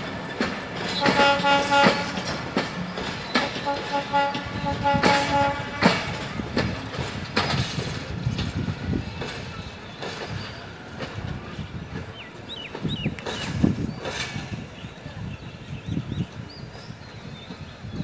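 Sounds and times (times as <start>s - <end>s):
train wheels knocking on track: 0.0s - 15.0s
low train rumble: 0.0s - 18.0s.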